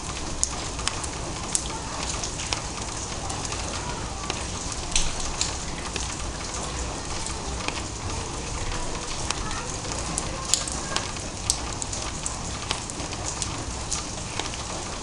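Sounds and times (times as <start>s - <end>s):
light rain hissing: 0.0s - 15.0s
raindrops ticking: 0.0s - 15.0s.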